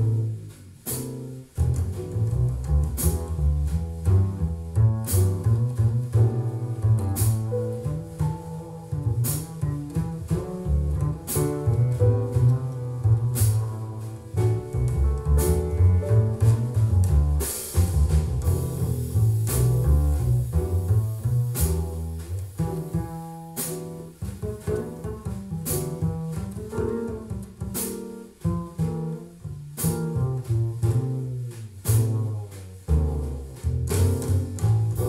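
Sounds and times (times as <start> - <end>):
double bass line: 0.0 - 35.0
jazz through loudspeakers: 0.0 - 35.0.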